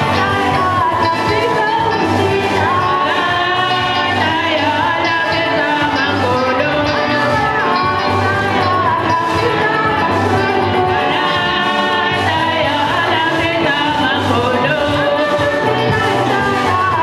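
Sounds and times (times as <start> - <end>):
instrumental accompaniment: 0.0 - 17.0.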